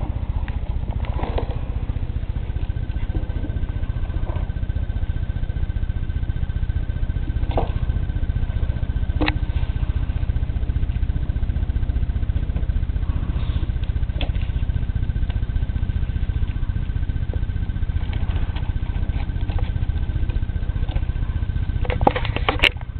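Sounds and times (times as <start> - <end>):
faint high whine: 0.0 - 22.9
low rumble: 0.0 - 22.9.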